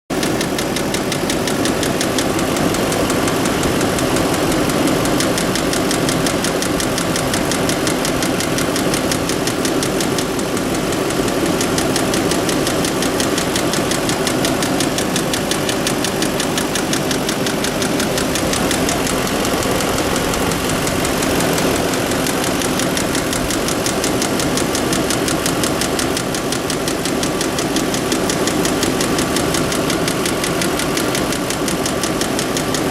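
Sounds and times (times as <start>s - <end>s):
car engine idling: 0.1s - 32.9s
fast engine knocking: 0.1s - 32.9s.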